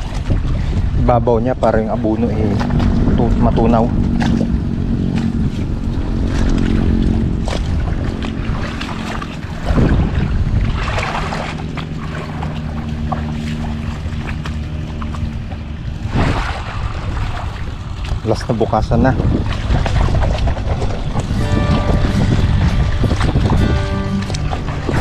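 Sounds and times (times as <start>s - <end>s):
water pump engine running: 0.0s - 25.0s
wind buffeting microphone: 0.0s - 25.0s.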